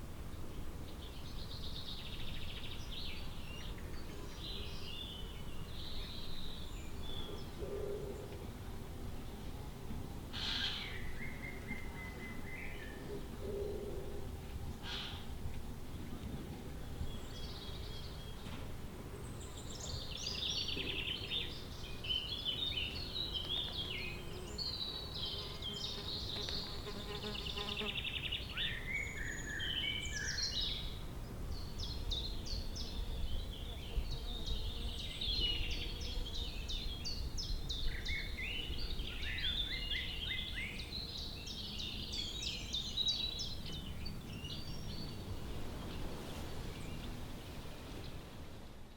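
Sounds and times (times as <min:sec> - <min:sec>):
songbirds singing: 0:00.4 - 0:08.4, 0:10.4 - 0:15.3, 0:15.9 - 0:48.2.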